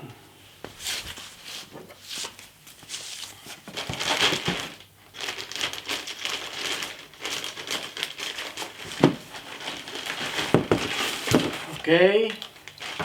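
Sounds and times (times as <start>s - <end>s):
plastic packaging rustling: 0.6s - 13.0s.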